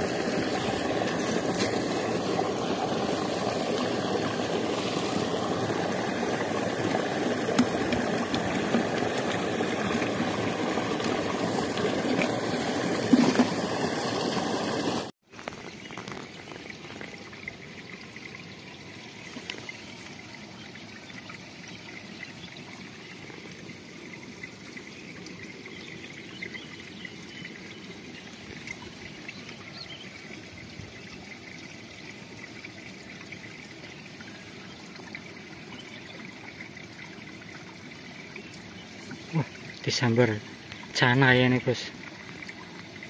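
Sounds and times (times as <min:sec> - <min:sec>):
water trickling over stones: 0:00.0 - 0:43.0.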